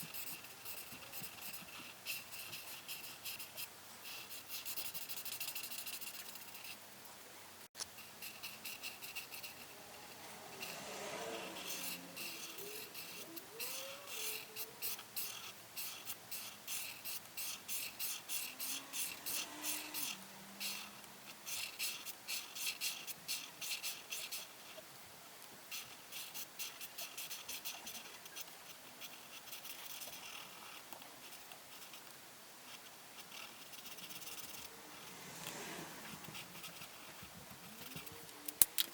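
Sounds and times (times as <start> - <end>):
pen scratching on paper: 0.0 - 6.8, 7.8 - 24.8, 25.7 - 38.2.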